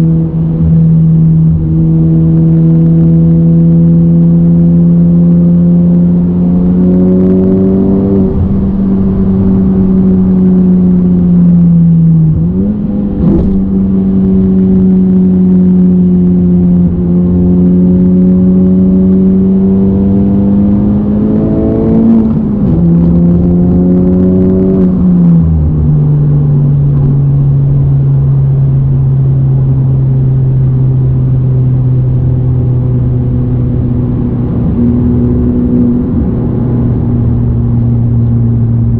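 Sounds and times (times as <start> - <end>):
car engine droning in cabin: 0.0 - 38.9.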